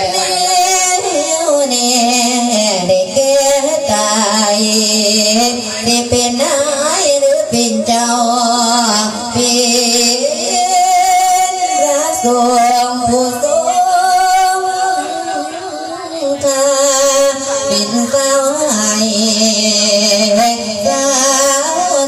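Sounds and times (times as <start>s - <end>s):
monk chanting over loudspeakers: 0.0s - 22.0s.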